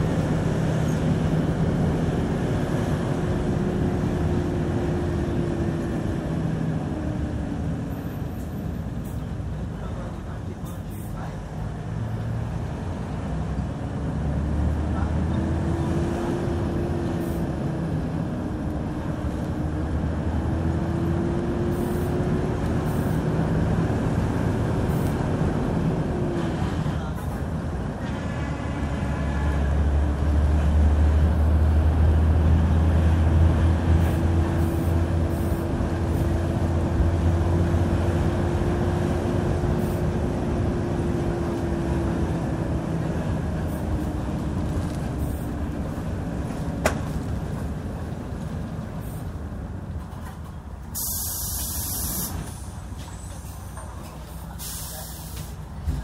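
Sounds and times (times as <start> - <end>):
bus engine rumbling: 0.0 - 56.0.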